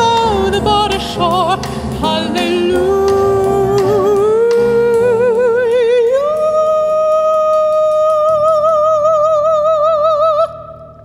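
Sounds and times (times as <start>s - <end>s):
drums: 0.0s - 8.9s
piano: 0.0s - 11.0s.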